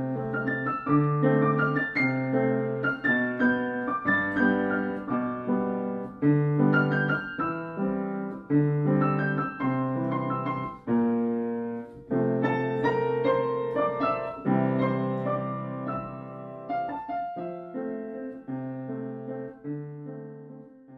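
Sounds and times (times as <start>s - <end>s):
background piano music: 0.0s - 20.9s.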